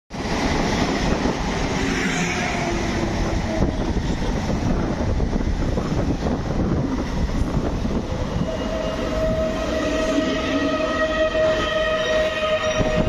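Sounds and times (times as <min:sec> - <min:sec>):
train wheels rumbling: 0:00.1 - 0:13.0.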